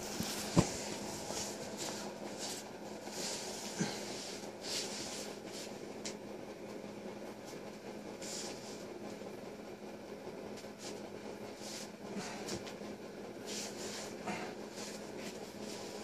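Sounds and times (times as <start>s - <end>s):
rustling and shuffling on floor: 0.0s - 6.2s, 7.4s - 9.3s, 10.5s - 16.0s
steady low hum: 0.0s - 16.0s.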